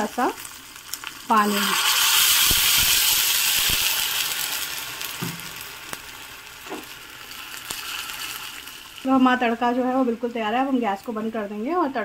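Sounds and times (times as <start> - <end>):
water sizzling in hot oil: 0.0 - 12.0.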